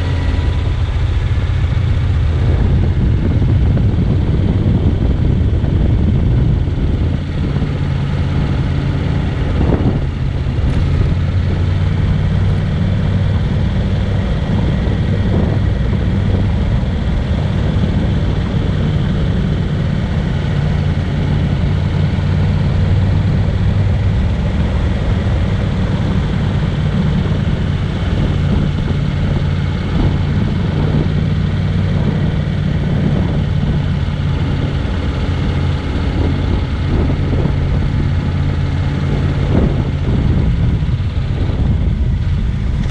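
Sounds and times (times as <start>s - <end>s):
motorcycle engine cruising: 0.0s - 42.9s
road noise: 0.0s - 42.9s
wind rushing: 0.0s - 42.9s.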